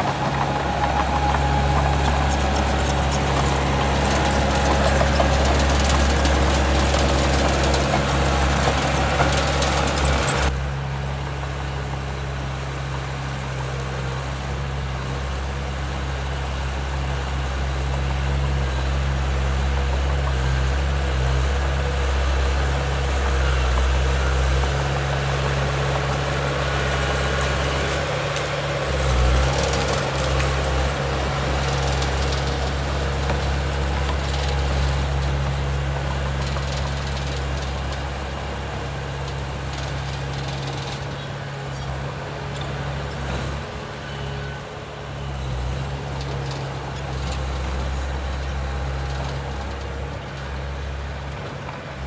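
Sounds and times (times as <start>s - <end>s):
diesel machinery engine running: 0.0s - 52.0s.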